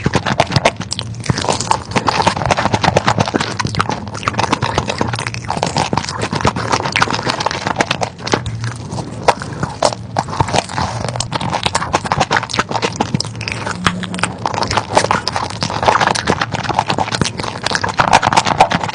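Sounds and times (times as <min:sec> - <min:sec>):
crunching and chewing fried chicken: 0:00.0 - 0:18.9.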